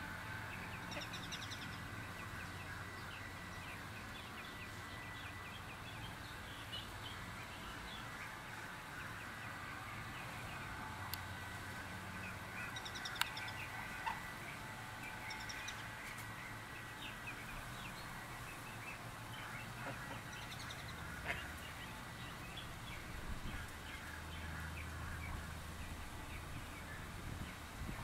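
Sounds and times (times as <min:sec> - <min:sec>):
ducklings peeping: 0:00.2 - 0:27.6.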